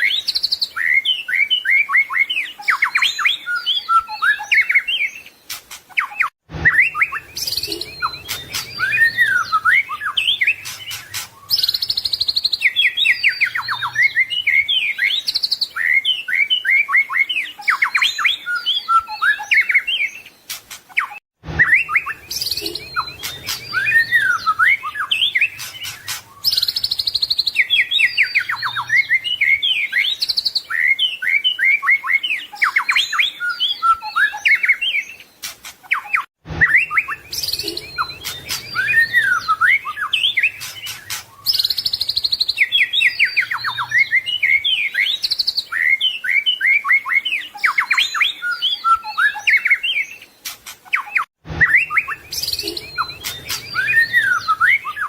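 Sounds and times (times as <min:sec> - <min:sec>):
bird song whistles and trills: 0:00.0 - 0:55.0.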